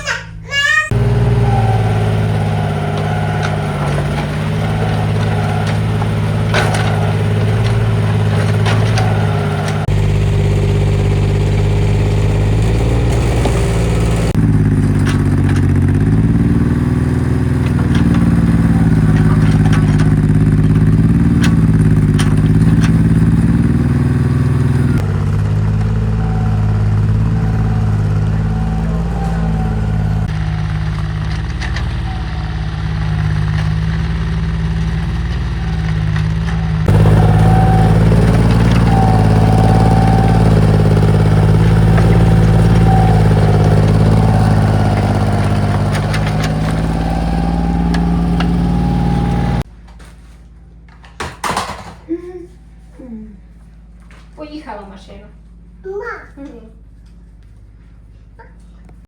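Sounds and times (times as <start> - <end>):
excavator engine running: 0.9 - 49.9
metal clanks and clatter: 1.0 - 49.6, 50.9 - 52.1.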